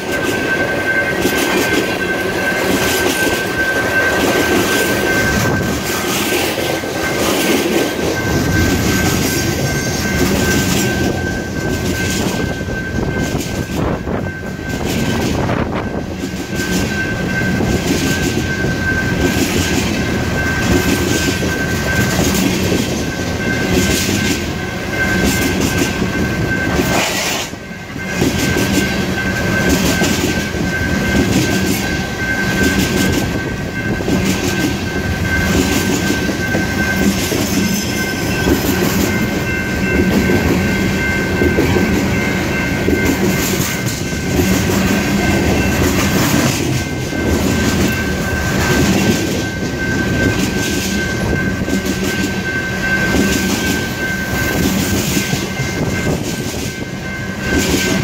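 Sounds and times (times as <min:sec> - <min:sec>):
freight train rumble and rattle: 0:00.0 - 0:58.0
high ringing tone: 0:00.0 - 0:58.0.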